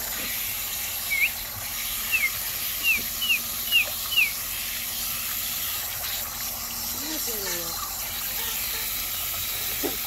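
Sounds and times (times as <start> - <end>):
garden hose hissing water: 0.0 - 10.0.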